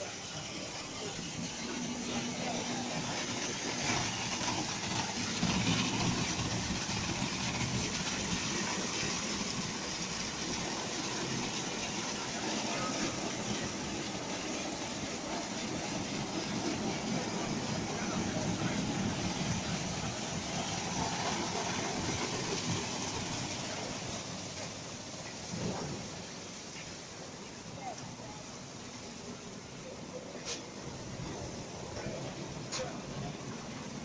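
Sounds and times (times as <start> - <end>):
water spraying: 0.0 - 34.0.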